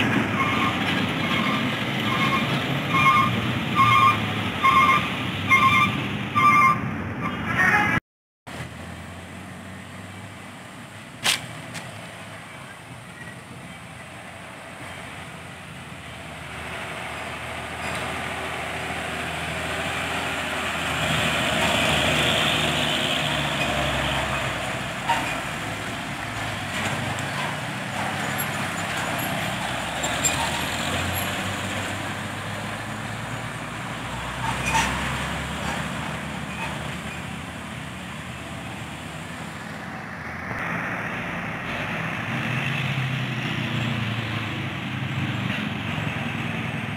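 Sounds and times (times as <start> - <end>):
heavy diesel trucks pulling uphill: 0.0 - 46.9
passing traffic: 0.0 - 46.9.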